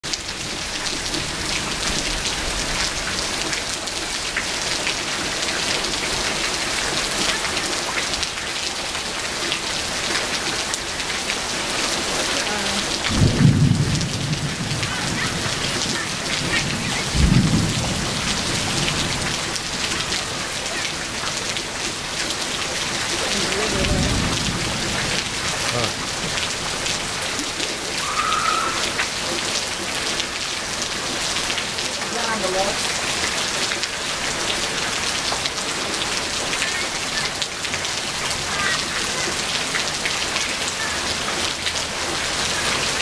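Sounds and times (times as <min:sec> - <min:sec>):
heavy rain hissing: 0:00.0 - 0:43.0.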